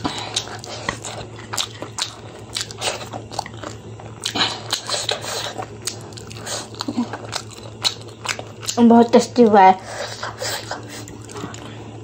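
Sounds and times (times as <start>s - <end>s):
person chewing food: 0.0s - 8.8s, 9.8s - 12.0s
low steady hum: 0.0s - 12.0s.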